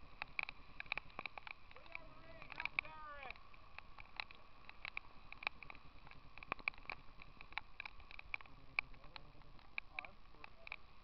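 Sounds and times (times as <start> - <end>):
raindrops ticking on hard surface: 0.0 - 11.0.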